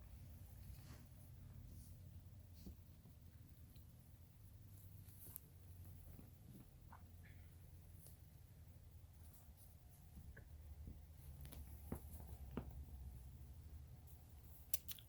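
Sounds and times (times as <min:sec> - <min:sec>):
faint scratching: 0:00.0 - 0:14.8
low room hum: 0:00.0 - 0:15.0.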